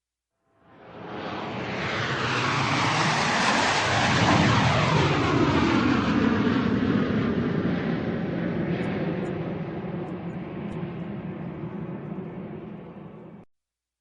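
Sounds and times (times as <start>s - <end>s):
airplane flying overhead: 0.6s - 13.5s.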